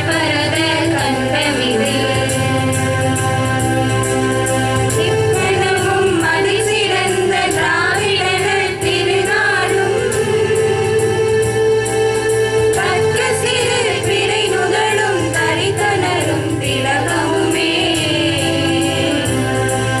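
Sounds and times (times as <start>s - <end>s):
women singing into microphone: 0.0s - 3.0s, 5.0s - 11.2s, 12.7s - 20.0s
light steady beat: 0.0s - 20.0s.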